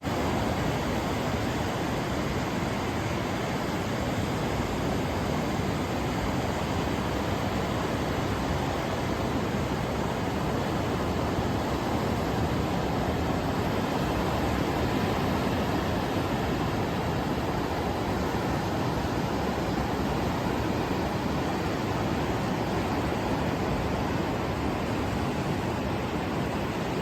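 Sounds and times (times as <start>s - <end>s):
ocean surf breaking on beach: 0.0s - 27.0s.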